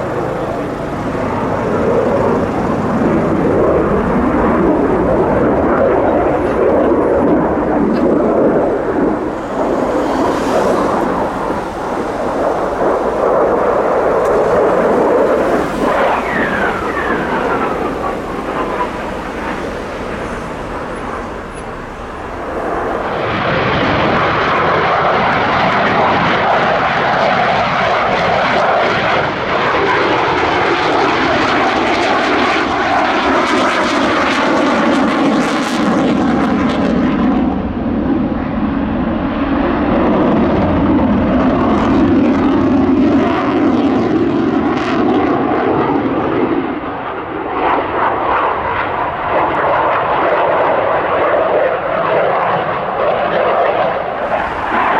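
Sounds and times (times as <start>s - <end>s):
jet whine and rumble: 0.0s - 54.9s.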